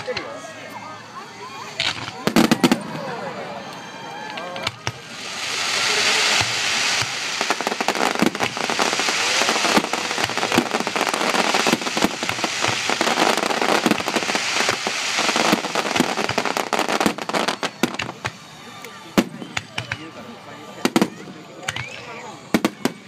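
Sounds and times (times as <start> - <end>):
fireworks crackling pops and bangs: 1.8 - 3.2, 4.3 - 23.0
hiss of burning fountains: 4.3 - 23.0.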